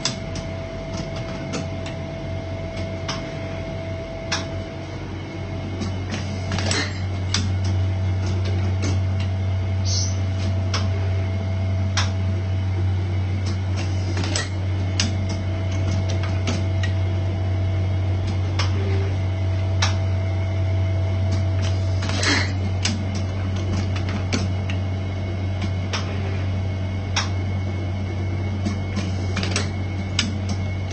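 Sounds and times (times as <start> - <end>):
machine humming: 0.0 - 30.9.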